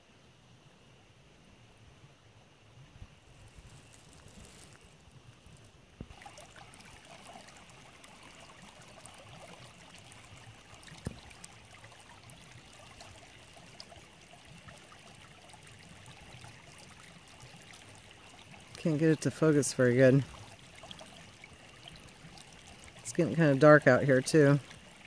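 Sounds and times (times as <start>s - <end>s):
water trickling over gravel: 3.0s - 25.0s.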